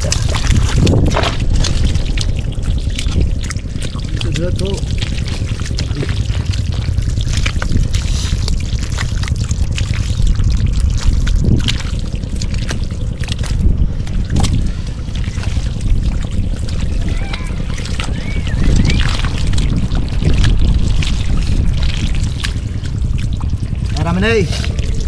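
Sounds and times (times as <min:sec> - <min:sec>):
shallow water splashing: 0:00.0 - 0:25.0
steady low rumble: 0:00.0 - 0:25.0.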